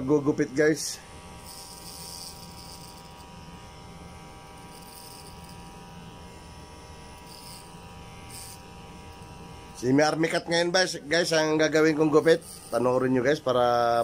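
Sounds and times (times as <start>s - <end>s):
electric hair clipper buzzing: 0.0s - 14.0s.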